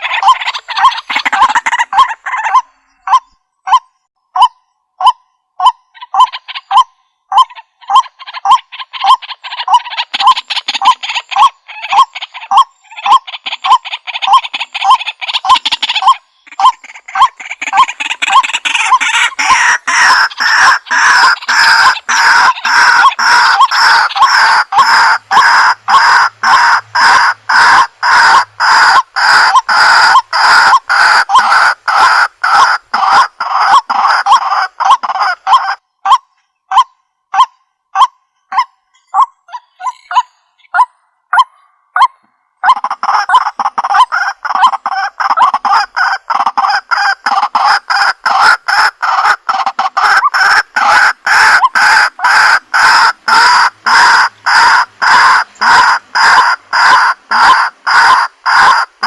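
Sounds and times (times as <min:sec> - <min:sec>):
waterhen calling kwak notes: 0:00.0 - 0:59.0.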